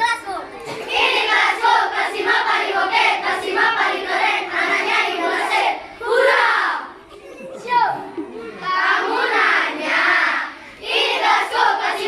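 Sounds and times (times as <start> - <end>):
children's choir singing: 0.6 - 12.0.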